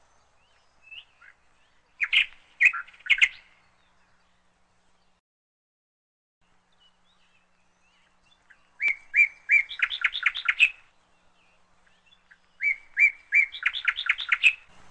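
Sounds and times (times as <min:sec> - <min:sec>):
songbird singing chirps: 0:00.0 - 0:05.2, 0:06.4 - 0:14.9.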